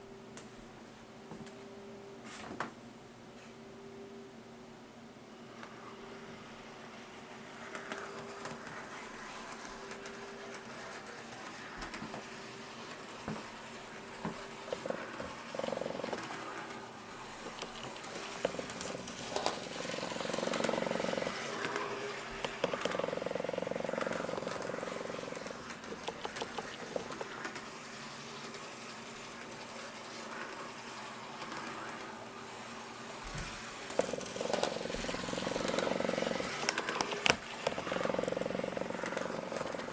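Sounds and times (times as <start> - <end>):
model train motor whine: 5.6 - 39.9.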